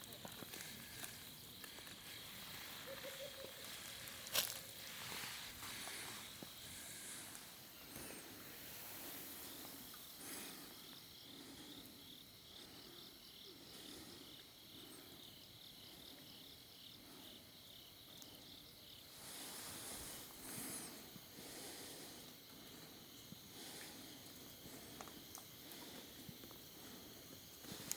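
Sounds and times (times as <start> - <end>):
faint insects chirping: 0.0 - 27.9
high insect whine: 0.0 - 27.9.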